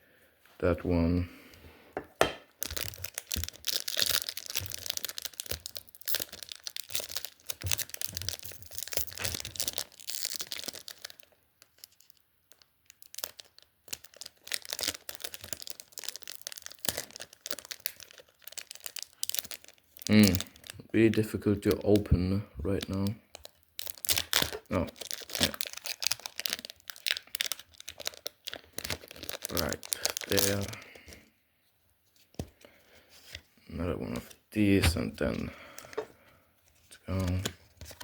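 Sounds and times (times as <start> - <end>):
foil wrapper crinkling and tearing: 2.5 - 31.3, 34.8 - 38.0.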